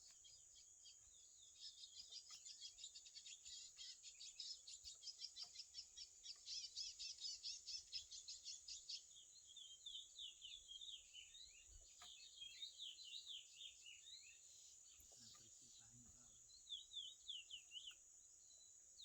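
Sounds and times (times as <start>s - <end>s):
finch singing high chirps: 0.0s - 19.0s.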